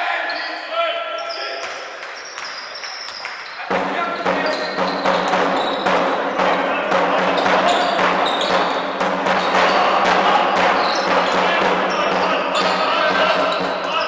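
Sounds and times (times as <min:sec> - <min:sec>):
sneakers squeaking on floor: 0:00.2 - 0:06.6, 0:07.2 - 0:14.0
basketball bouncing in a hall: 0:01.2 - 0:14.0.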